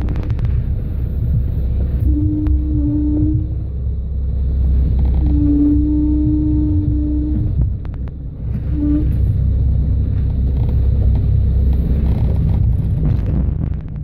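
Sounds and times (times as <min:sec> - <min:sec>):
off-road vehicle engine rumbling: 0:00.0 - 0:14.0.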